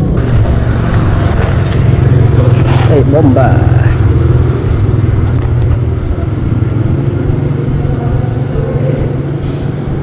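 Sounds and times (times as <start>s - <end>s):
low mechanical engine drone: 0.0s - 10.0s.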